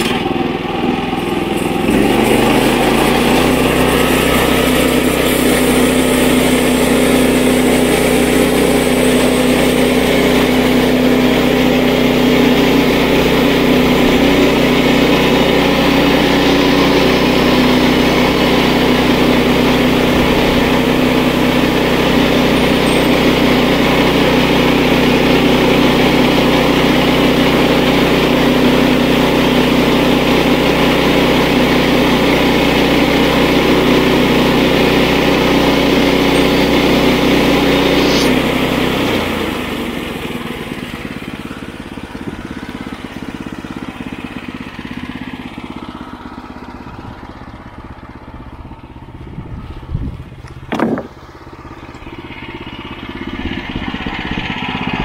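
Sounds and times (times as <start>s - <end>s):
gas engine running: 0.0s - 55.0s.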